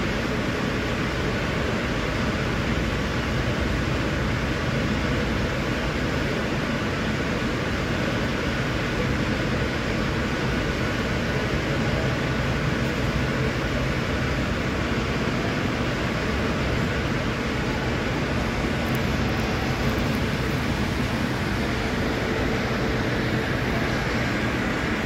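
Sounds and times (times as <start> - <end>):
steady rushing noise: 0.2 - 25.0.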